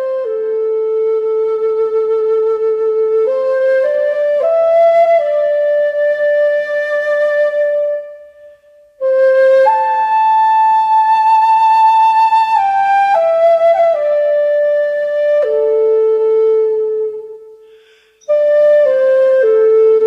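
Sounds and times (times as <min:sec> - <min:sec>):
flute playing slow notes: 0:00.0 - 0:20.0.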